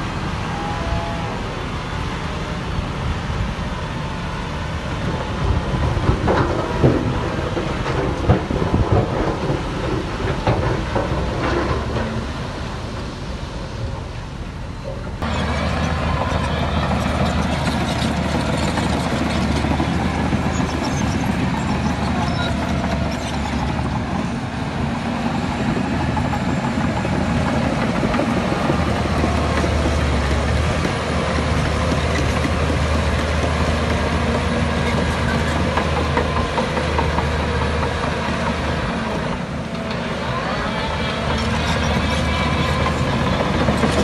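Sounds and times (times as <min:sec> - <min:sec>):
bulldozer diesel engine running: 0:00.0 - 0:44.0
metallic clanks from steel tracks: 0:05.0 - 0:13.1, 0:13.9 - 0:44.0.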